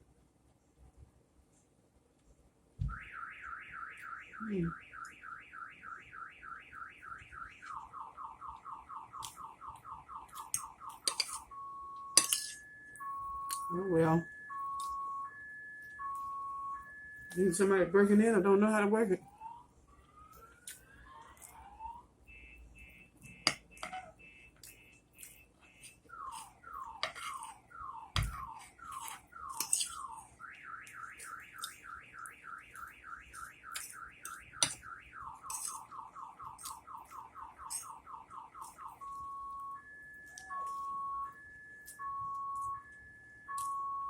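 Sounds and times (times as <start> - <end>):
car alarm siren: 2.8 - 44.0.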